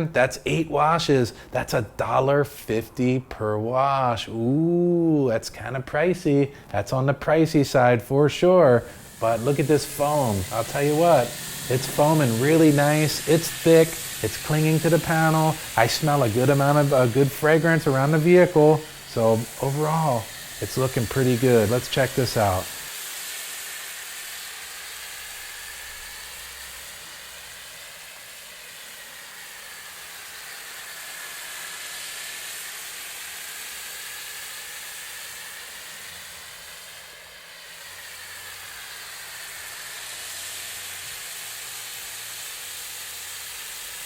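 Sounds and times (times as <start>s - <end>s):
foam cannon spray hissing: 0.0s - 44.0s.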